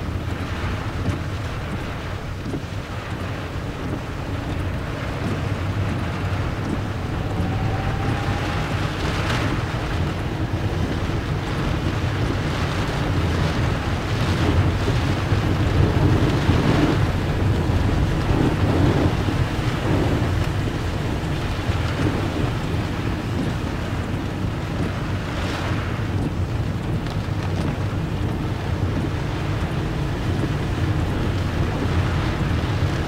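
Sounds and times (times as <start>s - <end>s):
rain and spray hitting a car: 0.0s - 33.0s
road and engine rumble: 0.0s - 33.0s
wind buffeting a car: 0.0s - 33.0s.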